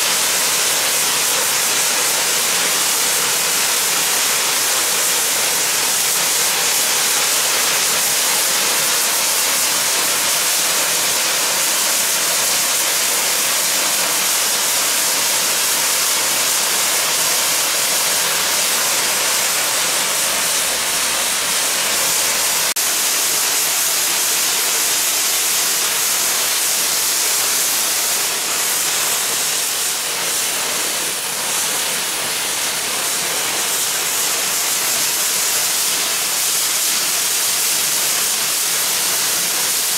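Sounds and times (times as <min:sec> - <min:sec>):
steam safety valves hissing: 0:00.0 - 0:39.9.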